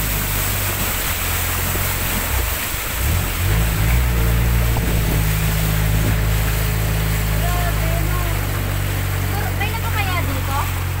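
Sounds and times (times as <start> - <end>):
boat engine running: 0.0 - 11.0
water hissing: 0.0 - 11.0
wind: 0.0 - 11.0.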